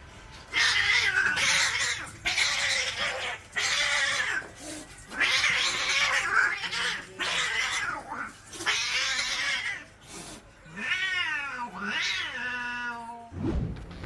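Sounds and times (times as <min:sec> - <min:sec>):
cat yowling: 0:00.5 - 0:13.3.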